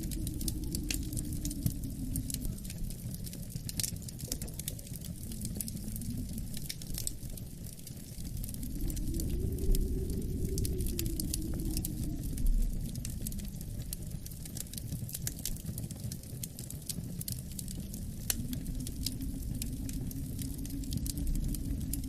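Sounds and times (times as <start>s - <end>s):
low rumble of wind: 0.0s - 22.0s
wood fire crackling: 0.0s - 22.0s.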